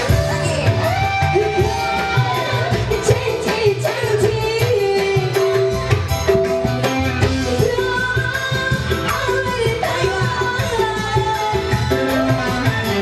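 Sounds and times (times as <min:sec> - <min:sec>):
woman singing into a microphone: 0:00.0 - 0:06.5, 0:07.1 - 0:13.0
live band music: 0:00.0 - 0:13.0.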